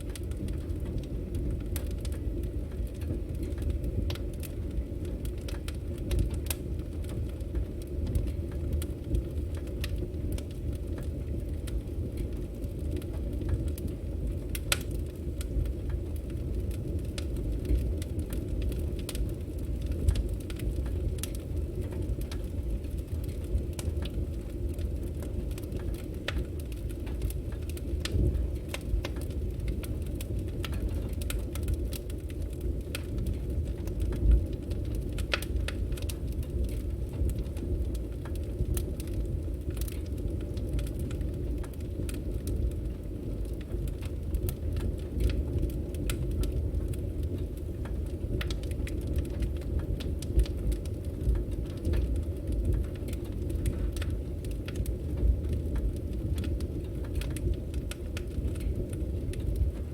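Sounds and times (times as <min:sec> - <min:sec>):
firewood burning and crackling: 0:00.0 - 0:59.9.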